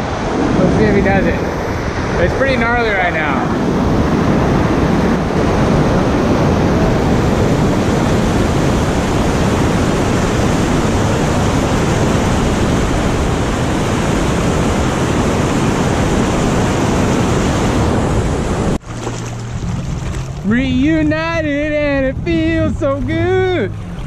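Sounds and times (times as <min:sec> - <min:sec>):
whitewater rapid rushing: 0:00.0 - 0:24.0.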